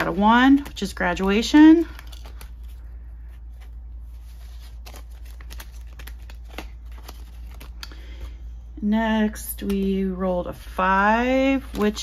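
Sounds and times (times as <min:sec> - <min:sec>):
paper bills and plastic rustling: 0:00.0 - 0:08.4, 0:10.6 - 0:12.0.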